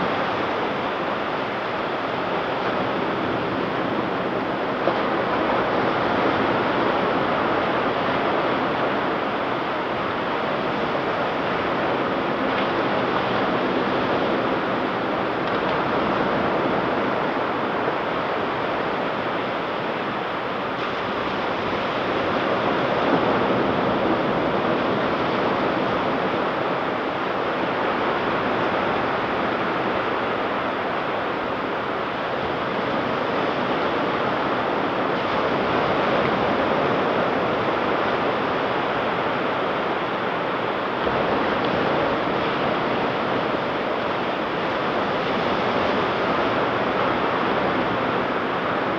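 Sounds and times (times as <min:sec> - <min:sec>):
ocean waves breaking: 0:00.1 - 0:48.9.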